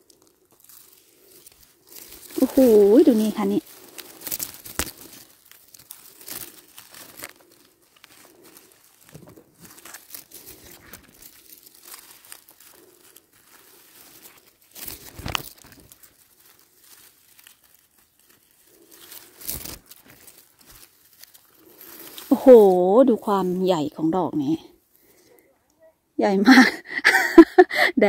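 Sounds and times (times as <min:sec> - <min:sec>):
leaves and twigs crackling underfoot: 0:00.0 - 0:25.9.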